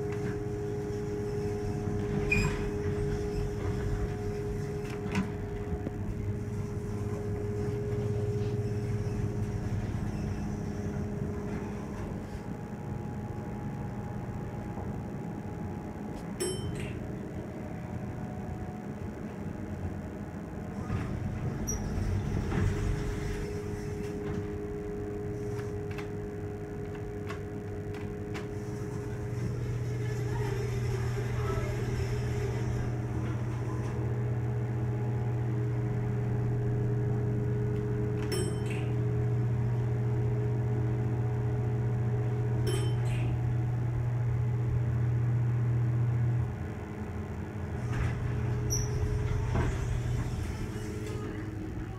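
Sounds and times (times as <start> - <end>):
elevator hum and whine: 0.0 - 51.9.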